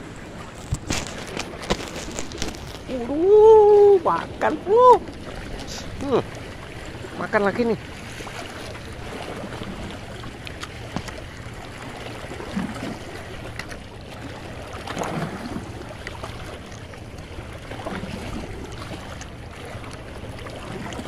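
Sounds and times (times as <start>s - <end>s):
constant low hum: 0.0s - 21.0s
water noise: 0.0s - 21.0s
wind: 0.0s - 21.0s.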